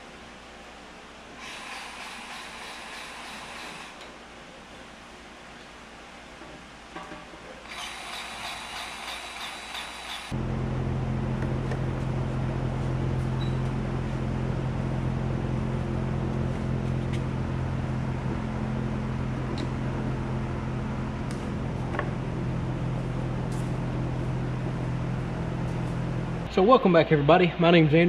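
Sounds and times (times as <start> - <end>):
electric fan hum: 0.0 - 28.0.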